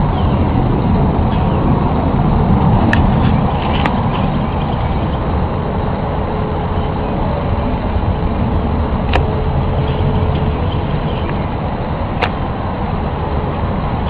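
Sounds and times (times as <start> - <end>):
faint steady hum: 0.0 - 14.0
loud low rumble: 0.0 - 14.0.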